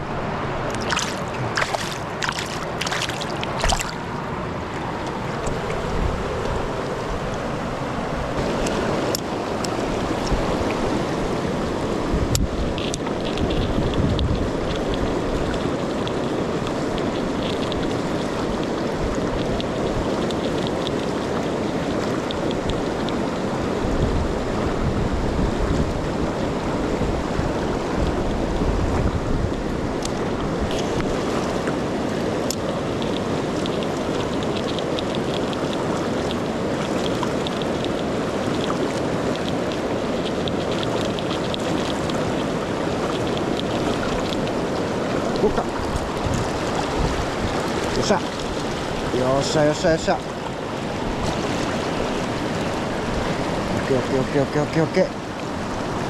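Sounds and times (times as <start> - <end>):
wind buffeting microphone: 0.0 - 49.5
river water rushing: 0.0 - 56.0.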